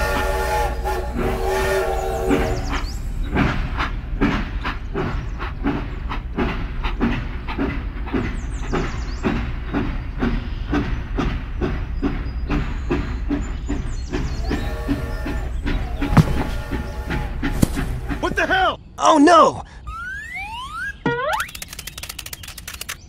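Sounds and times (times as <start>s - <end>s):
train clickety-clack on track: 0.0s - 18.7s.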